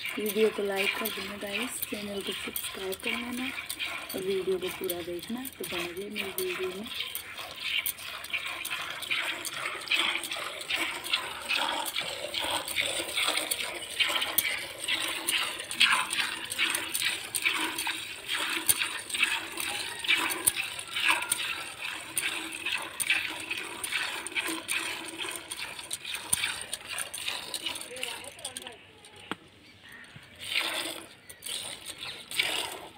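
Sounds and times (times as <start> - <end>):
milk squirting into a bucket: 0.0 - 32.9.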